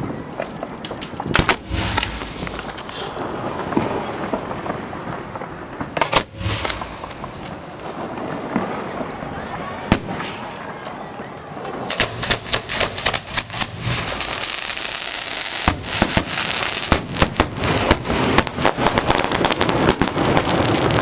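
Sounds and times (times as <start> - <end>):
fireworks bangs and pops: 0.0 - 21.0
fireworks crackle: 0.0 - 21.0.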